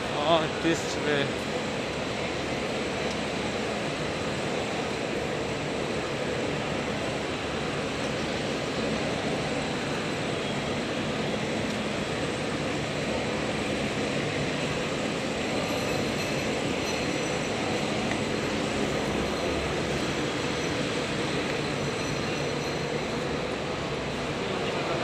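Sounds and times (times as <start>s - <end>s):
airport terminal ambience: 0.0s - 25.0s.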